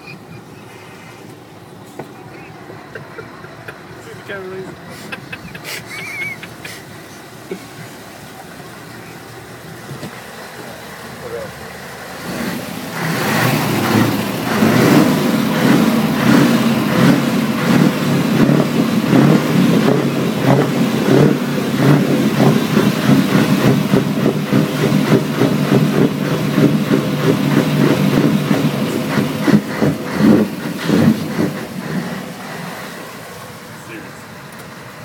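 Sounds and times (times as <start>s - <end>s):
car engine running loudly: 0.0s - 35.0s.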